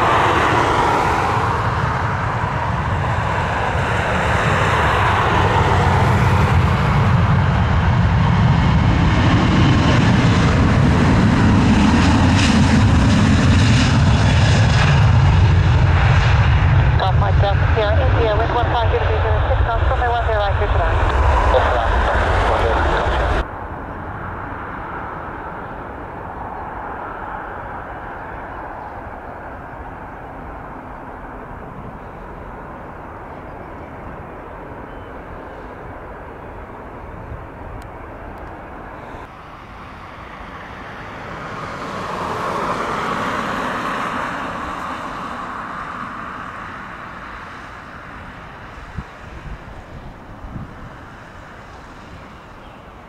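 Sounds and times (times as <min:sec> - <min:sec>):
jet airliner engines rumbling: 0:00.0 - 0:53.0.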